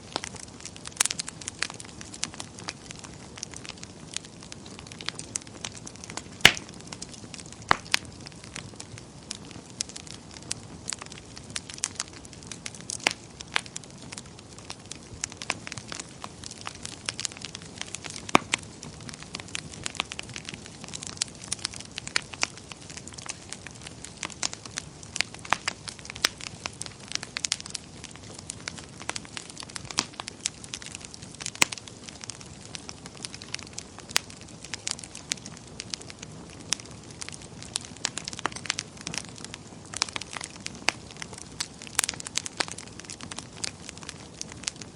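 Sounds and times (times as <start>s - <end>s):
fire crackles and pops: 0.0s - 44.9s
wood fire hissing: 0.0s - 44.9s.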